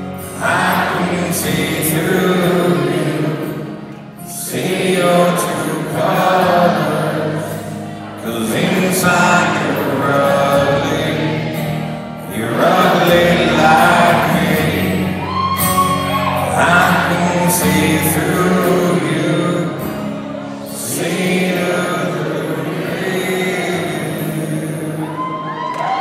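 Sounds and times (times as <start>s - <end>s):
man singing into microphone: 0.0s - 11.6s, 12.2s - 26.0s
acoustic guitar strumming: 0.0s - 25.8s.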